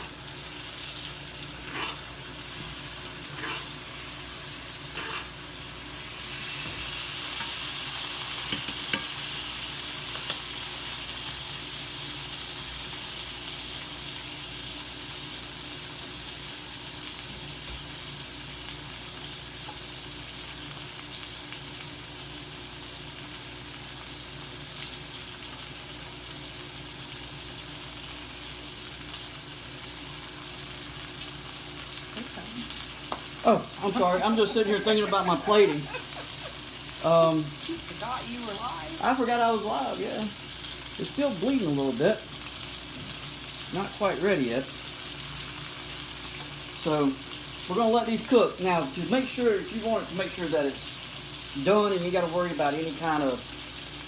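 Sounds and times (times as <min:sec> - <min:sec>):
steaks sizzling in a skillet: 0:00.0 - 0:54.0.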